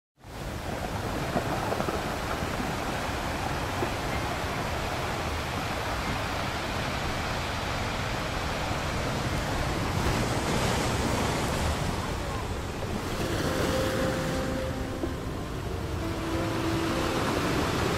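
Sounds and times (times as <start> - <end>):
waves churning and splashing: 0.2 - 17.9.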